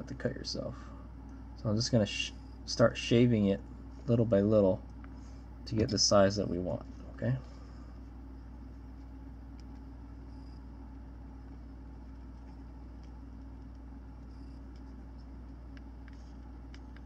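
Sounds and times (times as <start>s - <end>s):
low hum of room tone: 0.0s - 17.0s.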